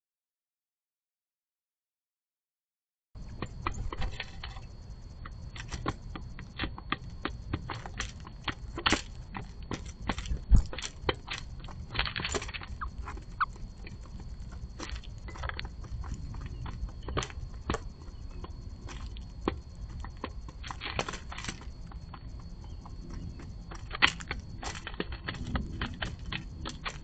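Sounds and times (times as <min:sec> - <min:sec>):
birds pecking seeds in a box: 0:03.2 - 0:27.0.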